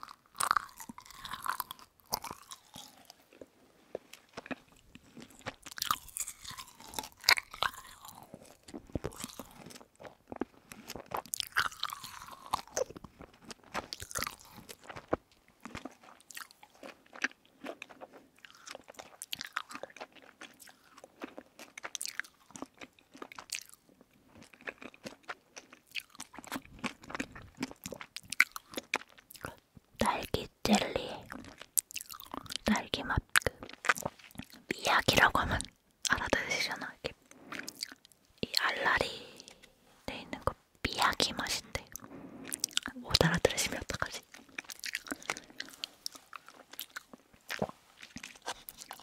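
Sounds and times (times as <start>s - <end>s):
chewing soft candy: 0.0s - 49.0s.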